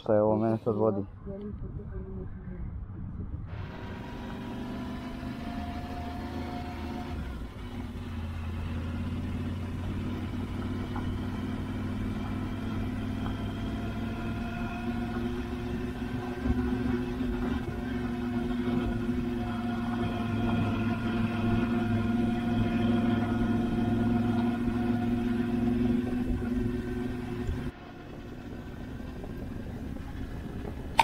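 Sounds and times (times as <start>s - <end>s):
motorcycle engine running: 3.5s - 31.0s.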